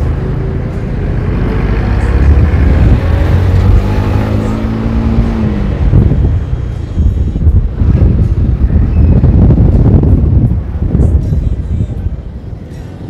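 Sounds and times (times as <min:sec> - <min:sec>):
motorcycle engine accelerating: 0:00.0 - 0:11.1.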